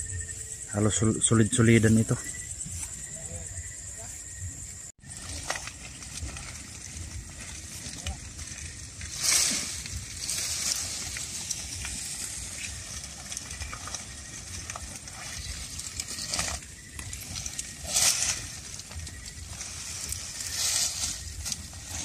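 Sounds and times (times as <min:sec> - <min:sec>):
stiff leaves rustling: 0:00.0 - 0:22.0.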